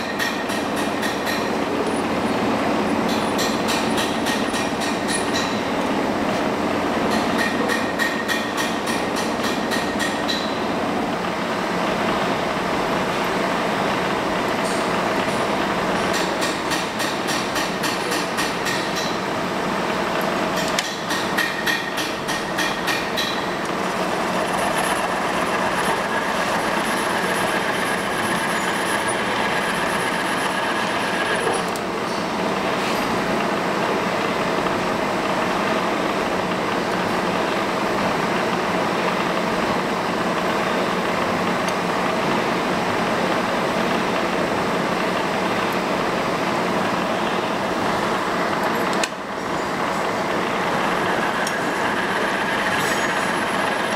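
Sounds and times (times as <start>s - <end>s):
machine whirring and rattling: 0.0s - 53.9s.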